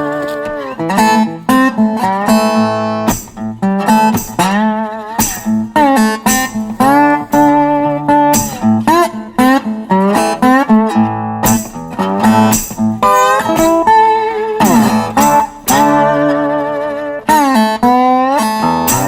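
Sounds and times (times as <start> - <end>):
bluesy guitar music: 0.0 - 19.0.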